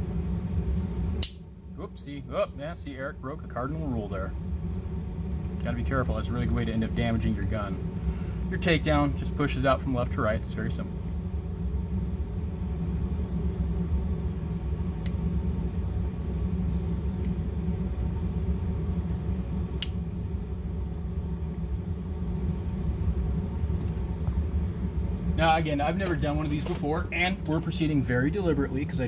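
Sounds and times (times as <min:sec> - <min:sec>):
low machine hum and rumble: 0:00.0 - 0:29.0.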